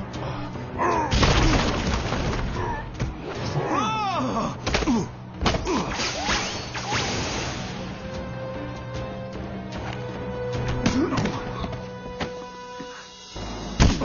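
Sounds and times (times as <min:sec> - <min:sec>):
orchestral music: 0:02.6 - 0:14.0.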